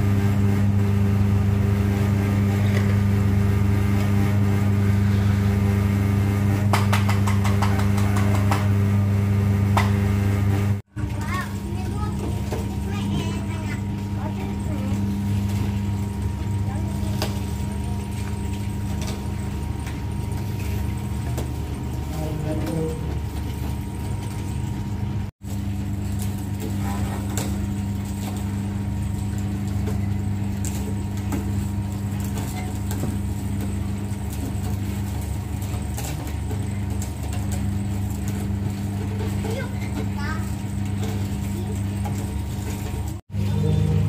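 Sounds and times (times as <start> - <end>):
cane stalks crushed in rollers: 0.0 - 44.0
juicer motor hum: 0.0 - 44.0.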